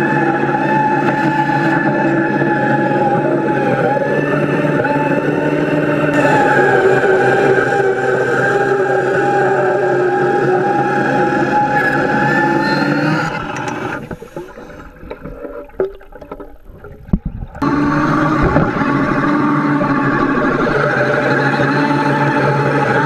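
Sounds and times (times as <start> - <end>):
underwater disc saw whining: 0.0 - 23.0.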